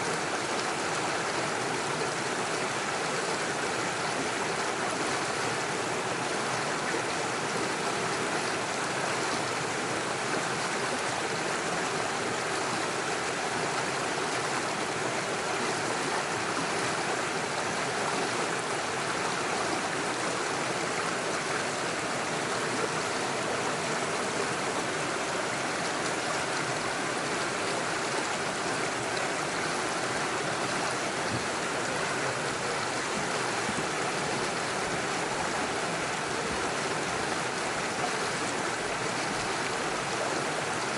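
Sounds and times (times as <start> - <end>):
stream rushing over stones: 0.0 - 40.9.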